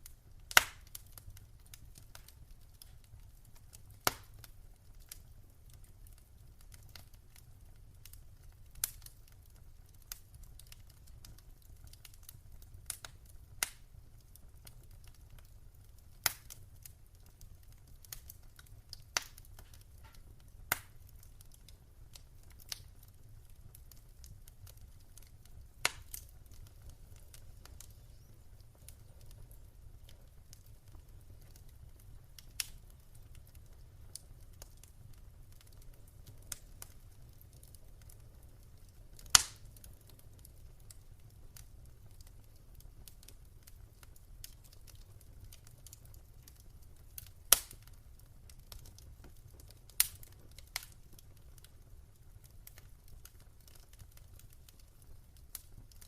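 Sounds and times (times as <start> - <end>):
fire crackling and popping: 0.0 - 56.0
low fire rumble: 0.0 - 56.0.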